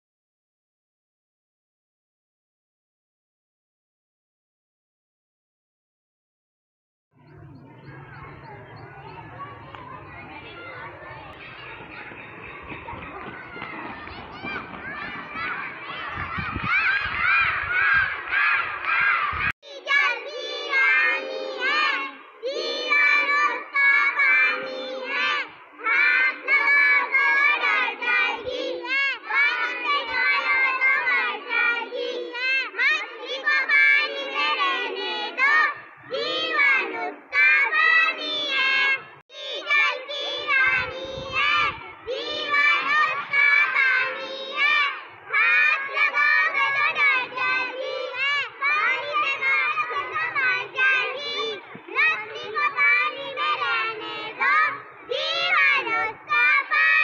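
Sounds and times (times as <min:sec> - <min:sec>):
children singing and shouting: 0:07.2 - 0:57.0.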